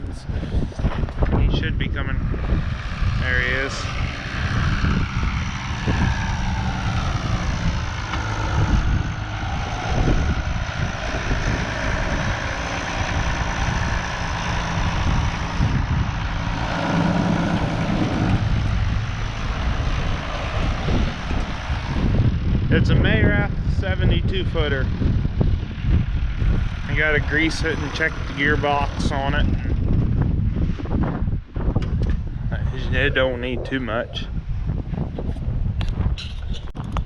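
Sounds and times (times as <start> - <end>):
tractor diesel engine running: 0.0 - 35.2.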